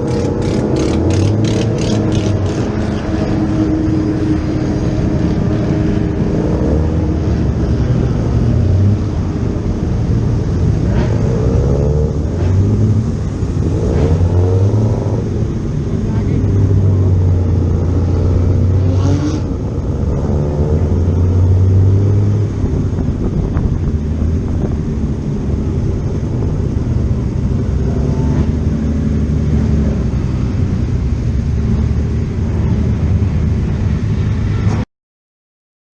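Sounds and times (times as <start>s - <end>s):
racing car engines rumbling: 0.0s - 34.8s.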